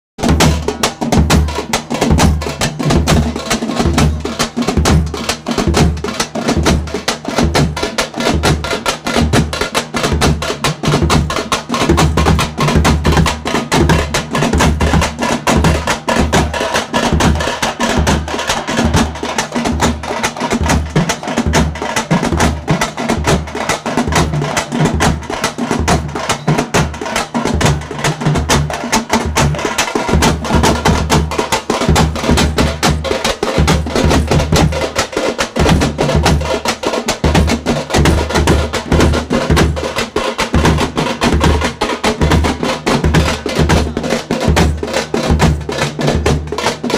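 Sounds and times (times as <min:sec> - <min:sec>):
percussion-heavy music: 0:00.2 - 0:46.9.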